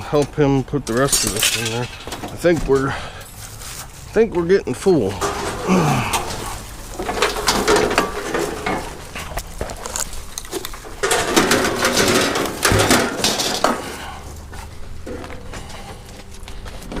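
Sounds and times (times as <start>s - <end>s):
scrap metal clanking: 0.9s - 4.0s, 4.9s - 16.0s.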